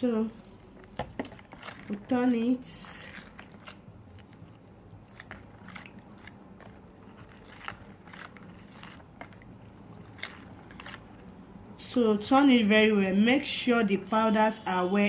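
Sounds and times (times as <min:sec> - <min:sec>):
thick mixture stirred in a bowl: 0:00.0 - 0:12.2.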